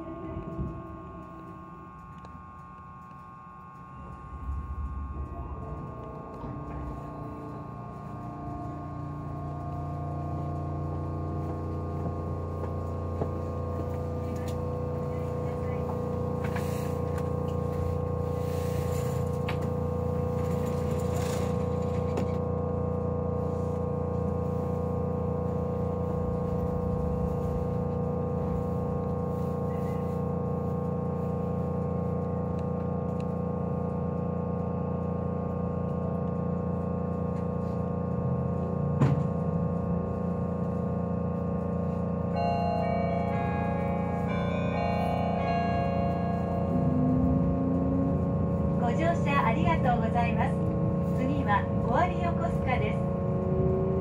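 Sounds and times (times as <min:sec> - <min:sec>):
train interior hum: 0:00.0 - 0:54.0.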